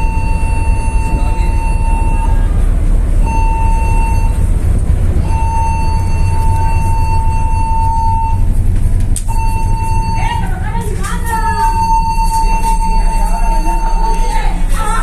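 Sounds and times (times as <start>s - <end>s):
constant low rumble: 0.0s - 15.0s
ship alarm buzzing blasts: 0.0s - 15.0s.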